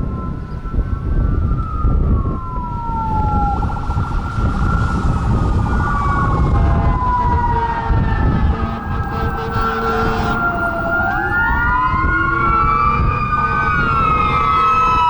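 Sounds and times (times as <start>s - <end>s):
heavy engine and road rumble: 0.0s - 15.0s
mechanical siren wail: 0.0s - 15.0s
electronic siren tones: 0.2s - 15.0s.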